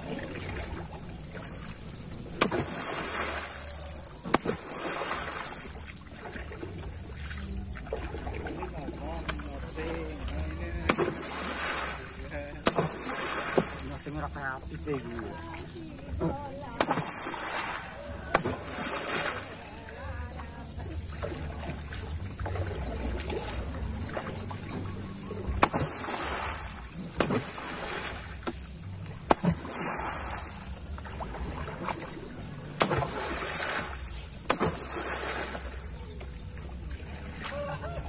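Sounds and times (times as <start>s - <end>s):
paddle smacking water: 0.0s - 38.0s.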